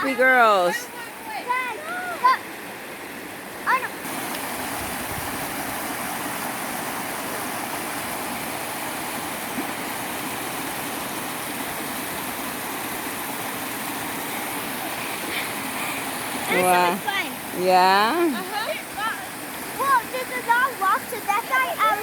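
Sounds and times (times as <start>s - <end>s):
creek water rushing over rock: 0.0s - 22.0s.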